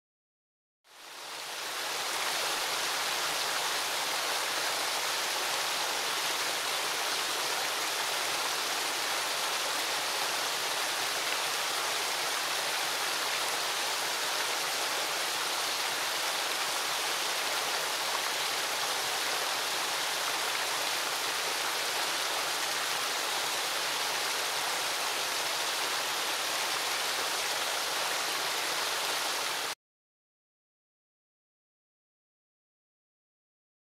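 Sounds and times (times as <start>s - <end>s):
waterfall rushing into pool: 0.9s - 29.8s.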